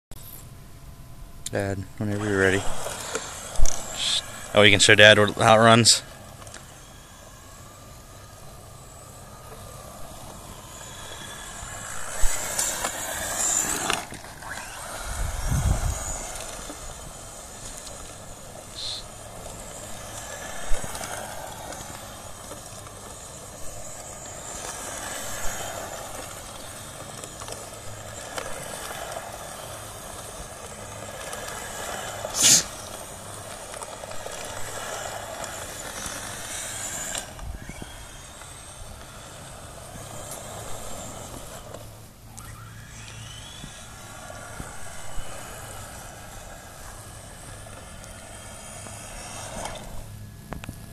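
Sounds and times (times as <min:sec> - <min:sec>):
electric motor whining: 0:00.2 - 0:50.9.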